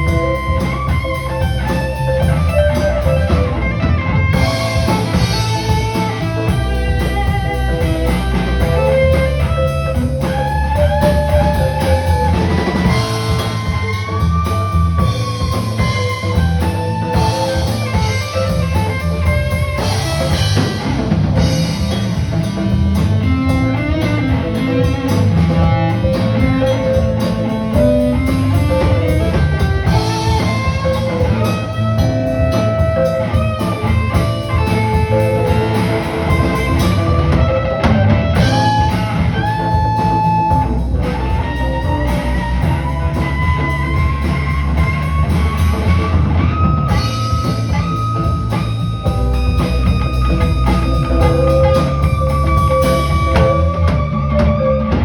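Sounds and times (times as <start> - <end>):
drum kit: 0.0 - 55.0
electric guitar lead: 0.0 - 55.0.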